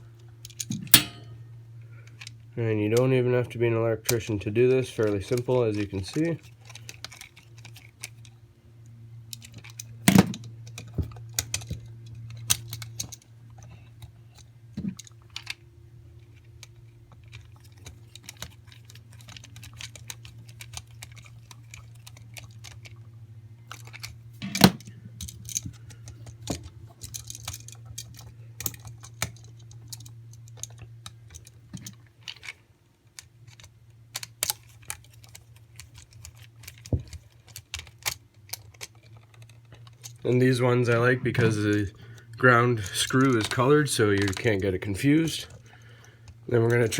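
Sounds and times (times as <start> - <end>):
faint low hum: 0.0 - 46.9.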